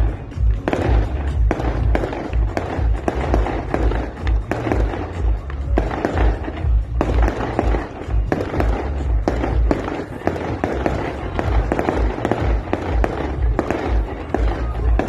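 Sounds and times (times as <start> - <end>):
fireworks exploding: 0.0 - 15.0
music with deep beat: 0.0 - 15.0.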